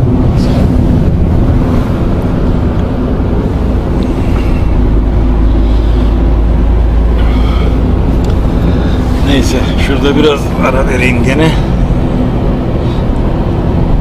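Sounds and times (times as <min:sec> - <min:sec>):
car engine and tyre rumble: 0:00.0 - 0:14.0
deep rumble: 0:00.0 - 0:14.0.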